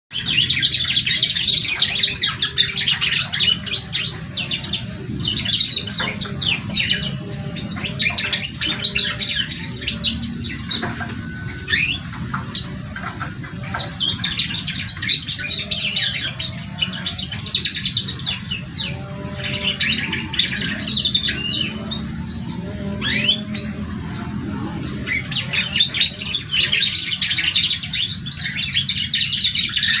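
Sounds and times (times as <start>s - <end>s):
low hum: 0.1s - 29.5s
songbird twittering and trilling: 0.1s - 30.0s.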